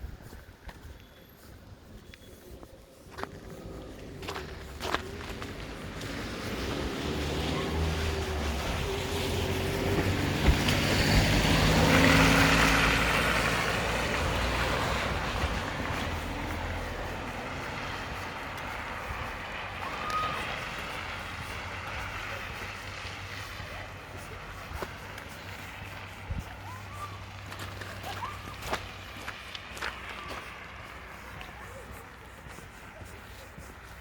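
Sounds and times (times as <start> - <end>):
vehicle passing by: 1.4 - 34.0.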